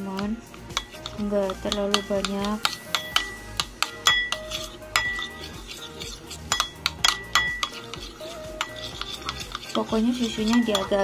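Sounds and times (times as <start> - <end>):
metal spoon clinking in ceramic bowl: 0.5 - 11.0.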